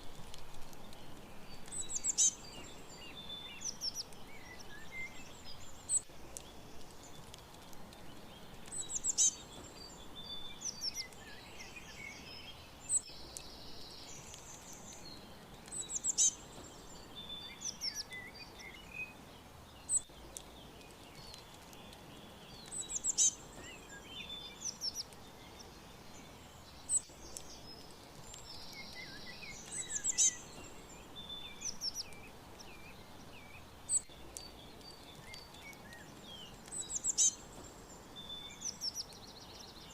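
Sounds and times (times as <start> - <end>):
steady background hiss: 0.0 - 39.9
wild birds chirping and trilling: 0.0 - 39.9.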